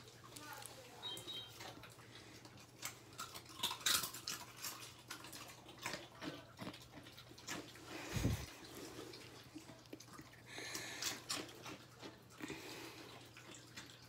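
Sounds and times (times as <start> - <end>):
dog crunching chips: 1.5 - 14.0.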